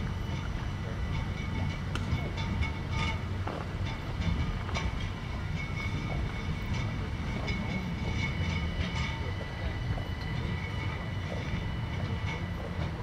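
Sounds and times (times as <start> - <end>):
high-pitched train whine: 0.0 - 13.0
train rumble: 0.0 - 13.0.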